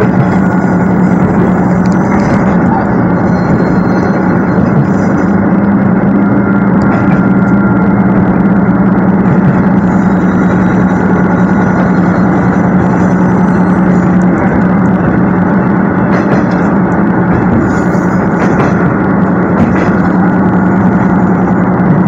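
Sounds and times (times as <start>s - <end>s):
diesel engine drone: 0.0s - 22.0s
train running rumble: 0.0s - 22.0s.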